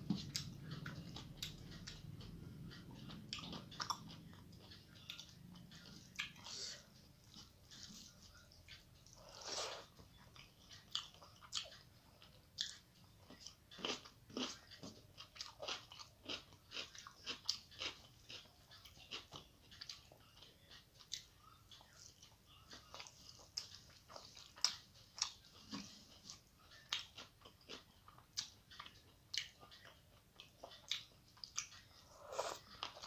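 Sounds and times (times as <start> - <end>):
person chewing with mouth clicks: 0.0 - 33.0.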